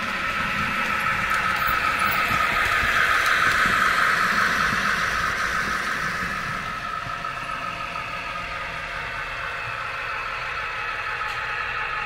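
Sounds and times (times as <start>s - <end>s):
model train whirring on rails: 0.0s - 12.0s.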